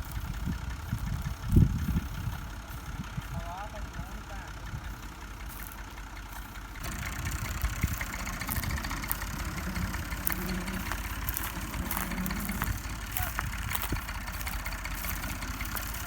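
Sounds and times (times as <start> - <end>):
motor engine idling: 0.0 - 16.0.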